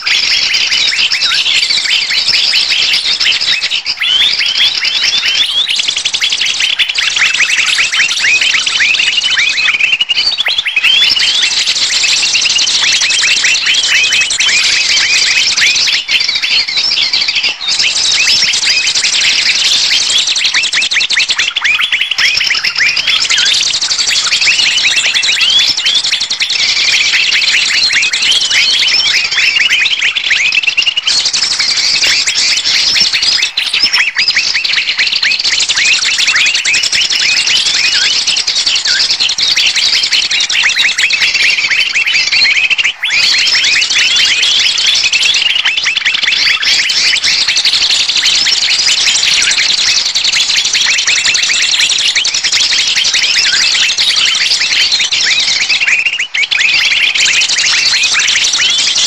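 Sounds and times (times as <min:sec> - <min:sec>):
chorus of small birds chirping: 0:00.0 - 0:59.0.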